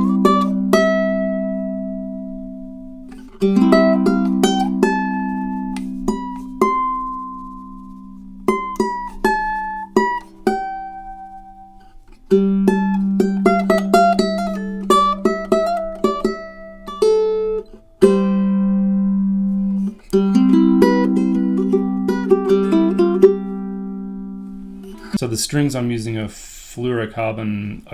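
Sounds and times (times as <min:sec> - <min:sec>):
ukulele picking and strumming: 0:00.0 - 0:25.2.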